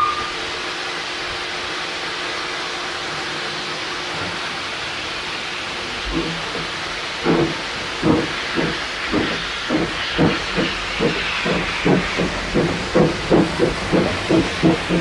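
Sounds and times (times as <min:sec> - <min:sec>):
steam hissing: 0:00.0 - 0:15.0
steam locomotive chuffing: 0:00.0 - 0:15.0.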